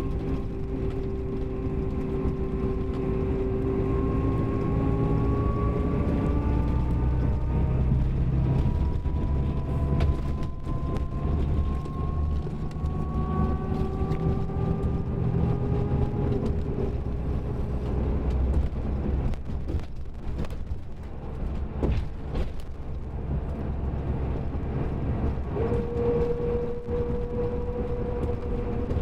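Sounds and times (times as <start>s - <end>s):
diesel coach engine rumble and whine: 0.0s - 29.0s.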